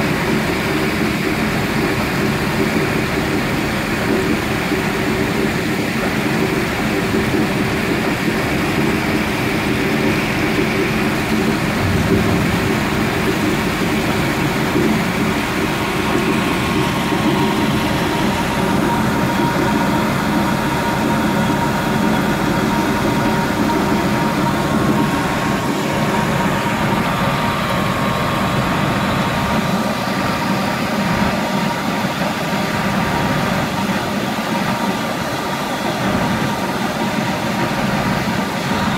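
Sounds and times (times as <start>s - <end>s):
dredger engine and pump running: 0.0s - 38.9s
rush of mud slurry: 0.0s - 38.9s.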